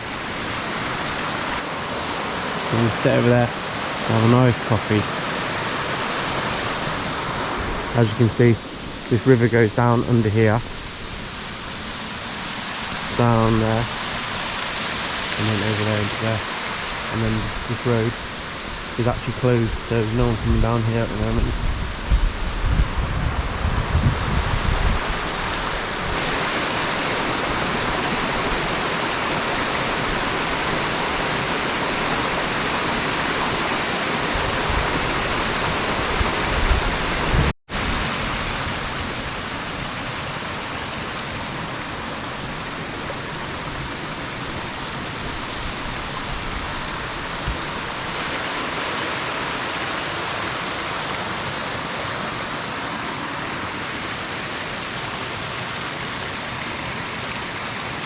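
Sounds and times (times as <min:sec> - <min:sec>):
flowing river water: 0:00.0 - 0:58.0.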